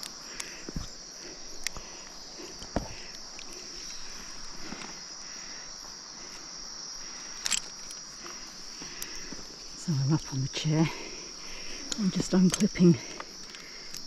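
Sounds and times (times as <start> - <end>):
chorus of night insects: 0.0 - 14.0.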